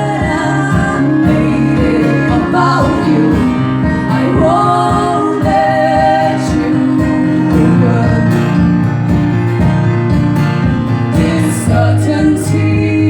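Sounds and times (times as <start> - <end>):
person singing: 0.0 - 8.8, 11.1 - 13.0
acoustic guitar playing: 0.0 - 13.0.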